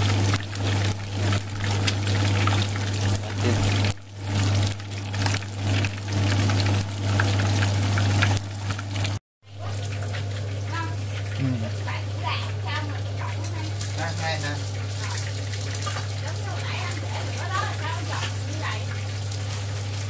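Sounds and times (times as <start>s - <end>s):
fish sizzling in oil: 0.0s - 20.0s
oil crackling and popping: 0.0s - 20.0s.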